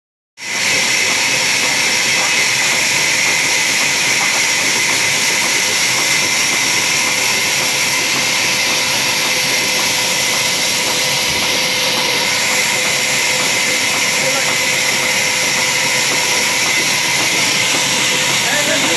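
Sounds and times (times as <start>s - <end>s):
sawmill saw running: 0.4s - 18.9s.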